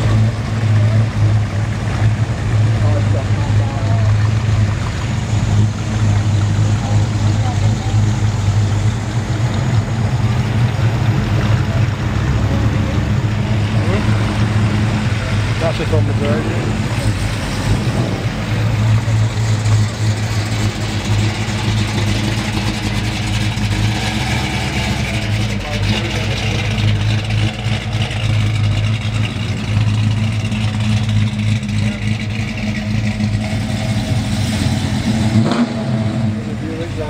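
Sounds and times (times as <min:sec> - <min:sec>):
car engines idling and revving: 0:00.0 - 0:37.0.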